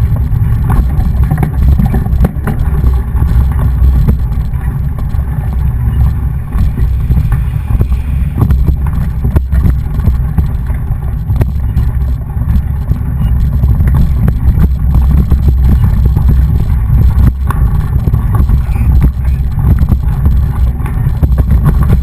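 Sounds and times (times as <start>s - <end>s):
bike knocks and rattles: 0.0s - 22.0s
wind buffeting microphone: 0.0s - 22.0s.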